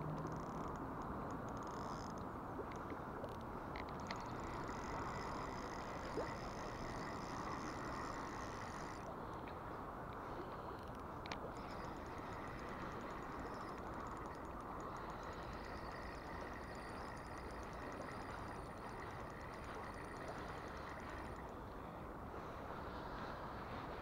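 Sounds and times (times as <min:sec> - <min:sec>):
faint clicks: 0:00.0 - 0:21.6
flowing river water: 0:00.0 - 0:24.0.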